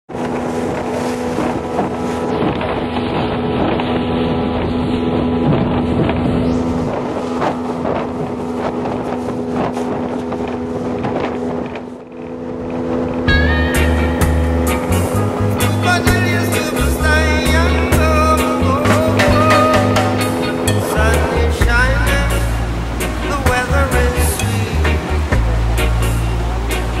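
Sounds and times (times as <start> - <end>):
outboard motor running: 0.1 - 27.0
water rushing past hull: 0.1 - 27.0
wind buffeting microphone: 0.1 - 27.0.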